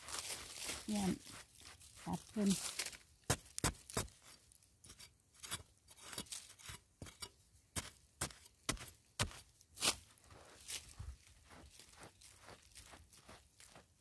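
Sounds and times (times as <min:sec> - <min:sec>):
soil crunching: 0:00.0 - 0:14.0.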